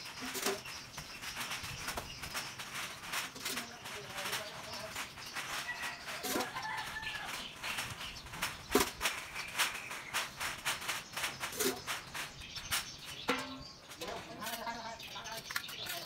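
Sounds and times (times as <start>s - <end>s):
scraping on wet concrete: 0.0s - 16.0s.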